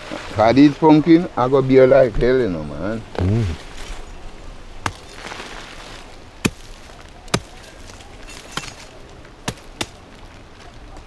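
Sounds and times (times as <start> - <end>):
faint outdoor background: 0.0 - 11.0.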